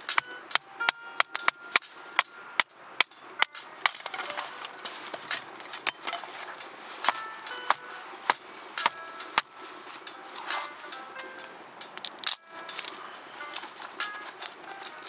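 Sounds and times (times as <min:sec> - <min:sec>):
campfire crackling and popping: 0:00.0 - 0:11.0, 0:11.8 - 0:15.0
steady hiss: 0:00.0 - 0:15.0.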